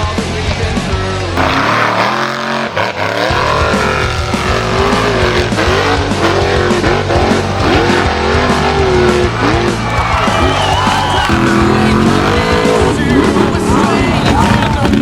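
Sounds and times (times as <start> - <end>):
music: 0.0 - 1.8, 3.0 - 15.0
car engine revving: 0.6 - 15.0.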